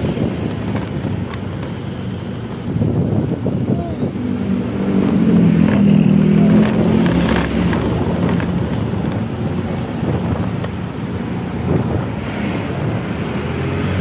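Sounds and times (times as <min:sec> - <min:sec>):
bus diesel engine growling: 0:00.0 - 0:14.0
road noise: 0:00.0 - 0:14.0.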